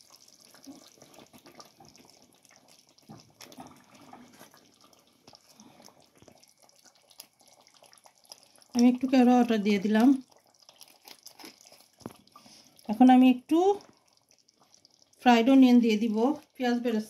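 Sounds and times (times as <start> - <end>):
gravy bubbling in a pot: 0.0 - 17.0.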